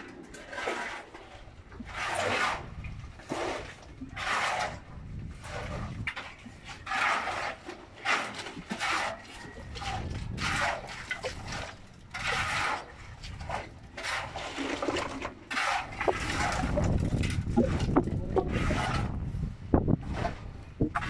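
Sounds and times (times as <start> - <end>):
wet concrete scraping and sloshing: 0.0 - 21.0.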